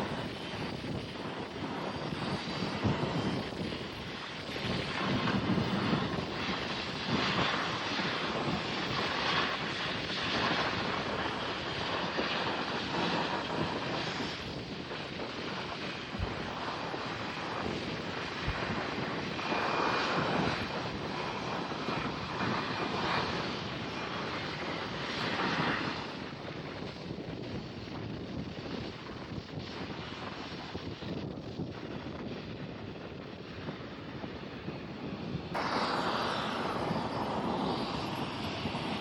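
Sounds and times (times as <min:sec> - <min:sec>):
airliner engine roar: 0:00.0 - 0:39.0.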